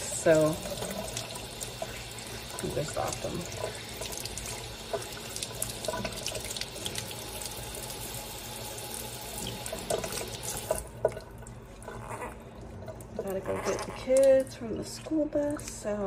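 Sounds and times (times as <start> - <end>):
faucet water splashing: 0.0 - 16.0.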